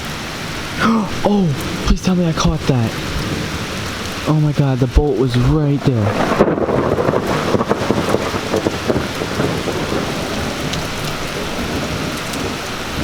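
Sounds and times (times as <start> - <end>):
heavy rain falling: 0.0 - 13.0
thunder rumbling: 0.0 - 13.0.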